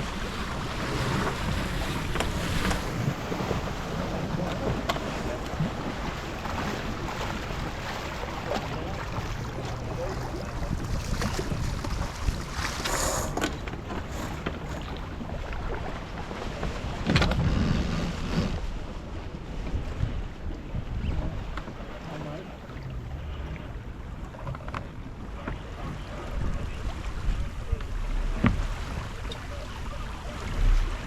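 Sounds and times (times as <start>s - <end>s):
water rushing along hull: 0.0s - 31.0s
wind buffeting microphone: 0.0s - 31.0s.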